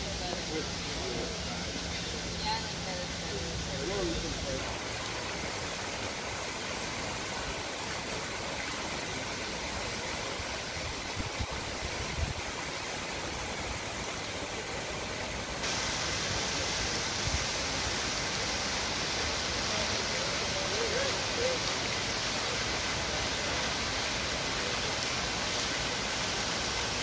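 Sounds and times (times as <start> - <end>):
water splashing down a fountain: 0.0 - 27.0.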